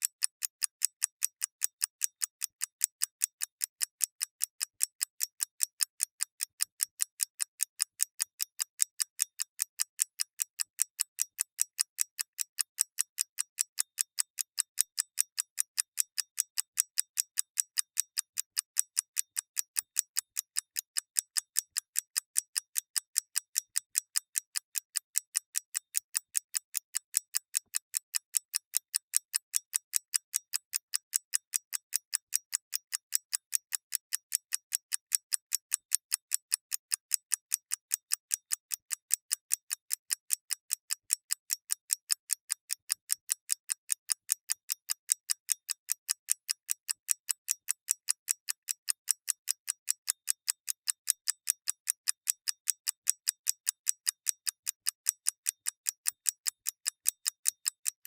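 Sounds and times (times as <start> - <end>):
mechanical clock ticking: 0.0 - 58.0.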